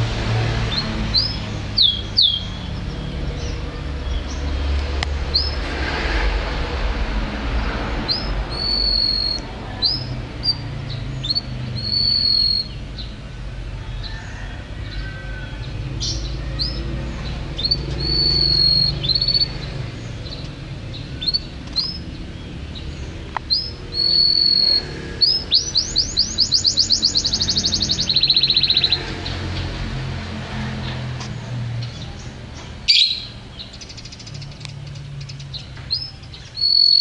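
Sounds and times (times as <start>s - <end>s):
canary singing: 0.6s - 5.6s, 8.0s - 30.0s, 32.8s - 37.0s.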